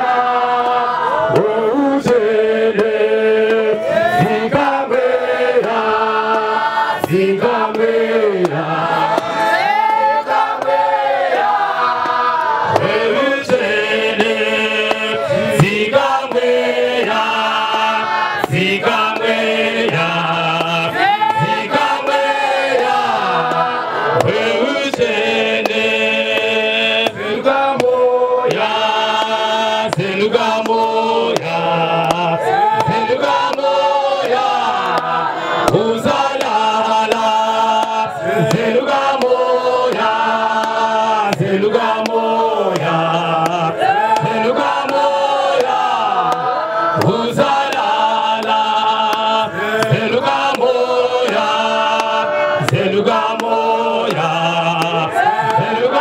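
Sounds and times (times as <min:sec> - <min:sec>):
congregation singing: 0:00.0 - 0:56.0.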